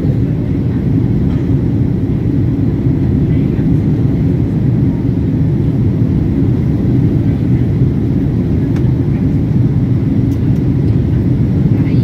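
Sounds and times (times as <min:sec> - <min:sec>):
airliner rumbling on approach: 0:00.0 - 0:12.0.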